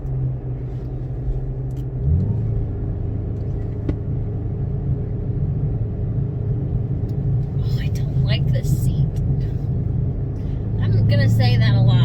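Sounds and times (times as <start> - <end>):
car engine heard from cabin: 0.0 - 12.0.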